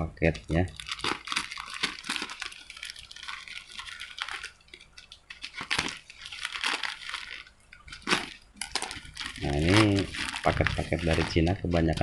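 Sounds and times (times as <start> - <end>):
plastic mailer crinkling: 0.5 - 12.0.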